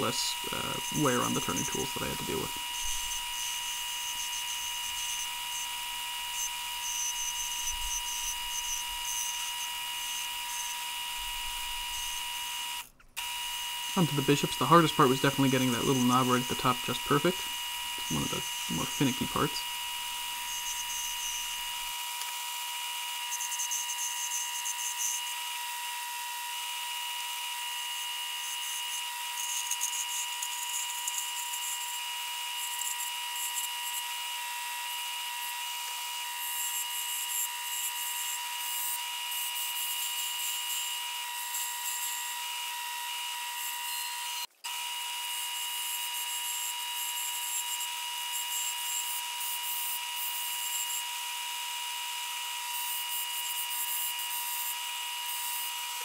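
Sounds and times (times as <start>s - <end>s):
turning tool cutting wood: 0.0s - 56.0s
wood lathe whine: 0.0s - 56.0s.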